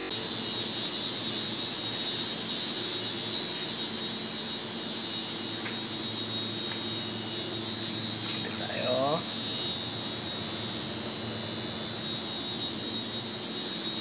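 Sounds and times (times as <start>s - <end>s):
high-pitched whine: 0.0s - 14.0s
large machinery droning: 0.0s - 14.0s.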